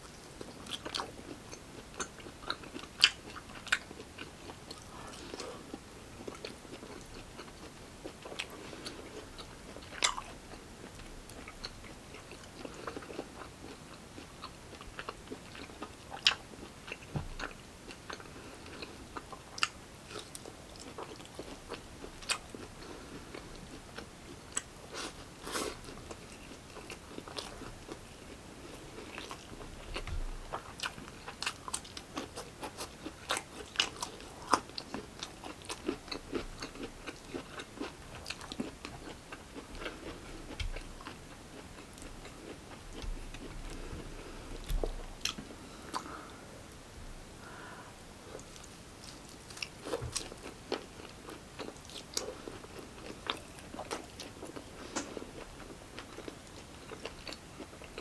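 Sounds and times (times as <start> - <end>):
person chewing food: 0.0 - 46.4, 47.5 - 58.0.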